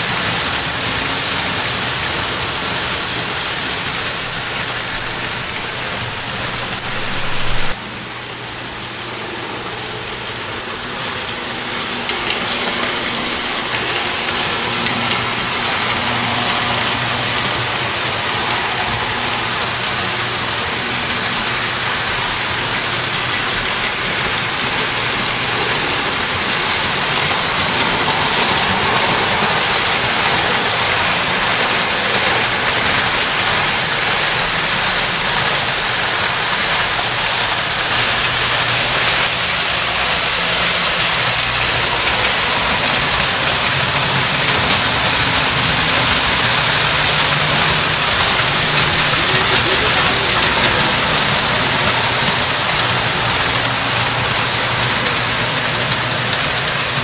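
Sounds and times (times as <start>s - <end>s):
toy trains rolling on metal track: 0.0s - 57.0s.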